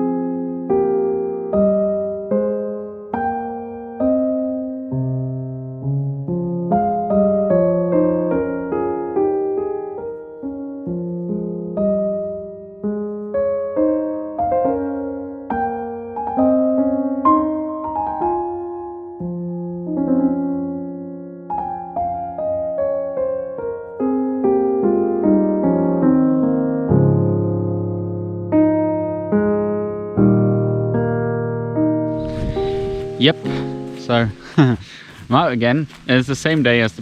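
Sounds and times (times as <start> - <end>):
gentle solo piano: 0.0 - 36.9.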